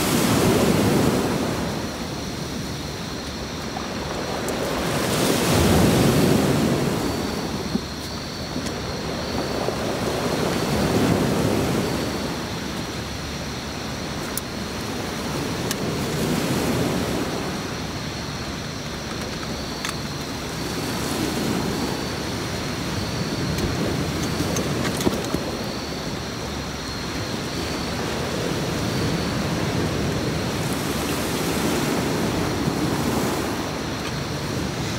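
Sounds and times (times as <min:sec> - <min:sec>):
sea waves breaking on a beach: 0:00.0 - 0:34.9.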